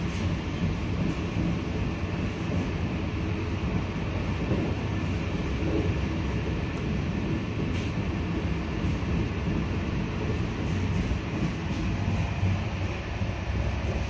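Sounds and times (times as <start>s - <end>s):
passenger train running: 0.0s - 14.0s.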